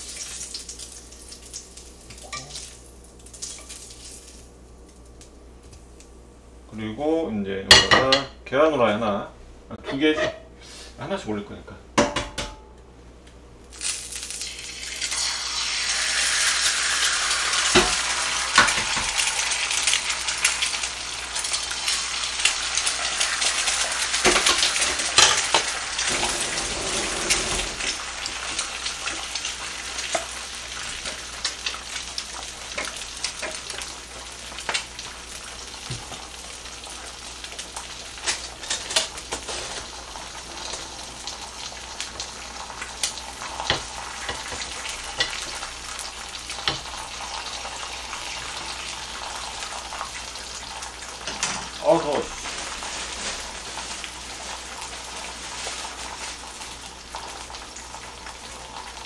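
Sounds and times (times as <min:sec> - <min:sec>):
eggs sizzling in a frying pan: 0:00.0 - 0:06.4, 0:13.6 - 0:59.0.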